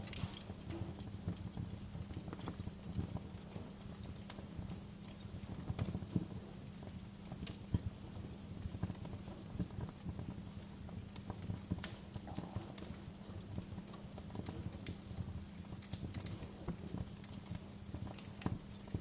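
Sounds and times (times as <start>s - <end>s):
fire snaps and pops: 0.0s - 19.0s
flames rumbling: 0.0s - 19.0s.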